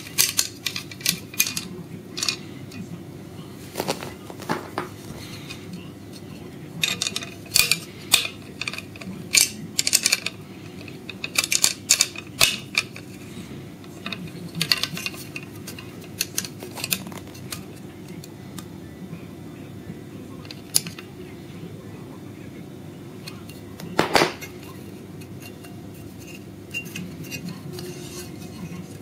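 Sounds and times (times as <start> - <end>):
metal plates clicking and clinking: 0.0 - 2.5, 3.8 - 18.2, 20.4 - 21.1, 23.2 - 29.0.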